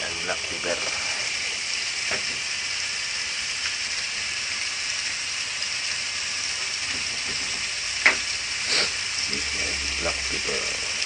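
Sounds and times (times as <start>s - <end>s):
liver sizzling in a pot: 0.0s - 11.0s.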